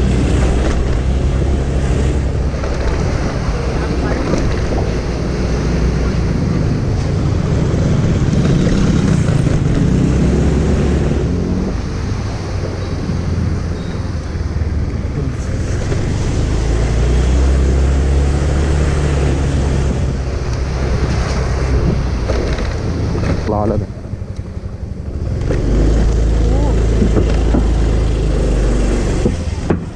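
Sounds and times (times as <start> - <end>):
motorcycle engine running: 0.0 - 16.3, 21.7 - 29.6.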